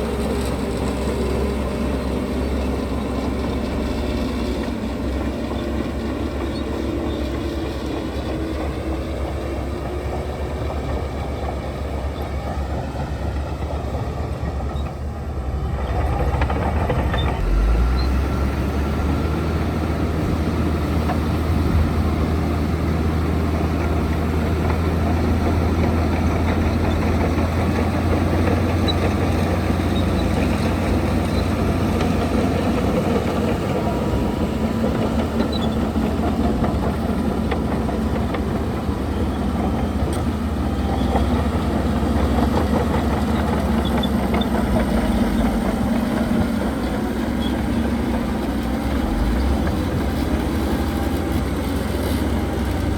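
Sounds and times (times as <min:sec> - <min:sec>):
diesel engine rumbling: 0:00.0 - 0:52.9.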